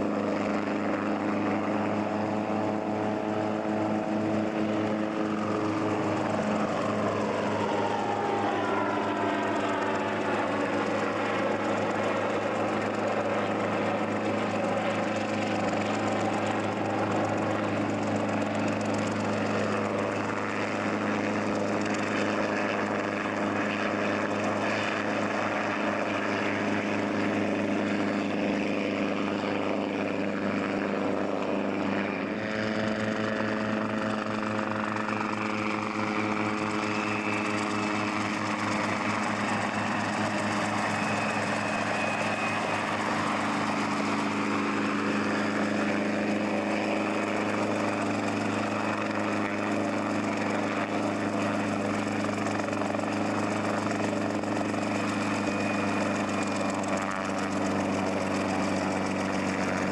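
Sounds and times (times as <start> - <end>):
helicopter rotor beat: 0.0 - 59.9.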